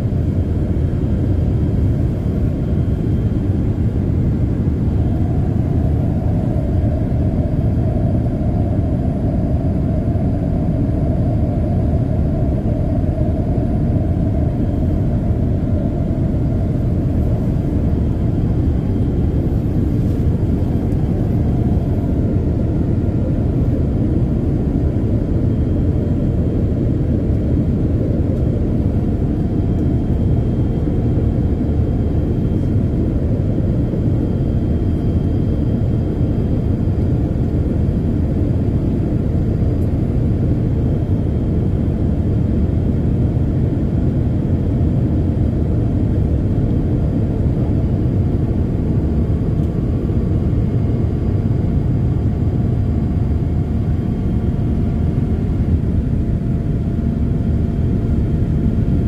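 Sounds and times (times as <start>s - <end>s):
airplane cabin rumble and roar: 0.0s - 59.0s
faint higher hum: 0.0s - 59.0s.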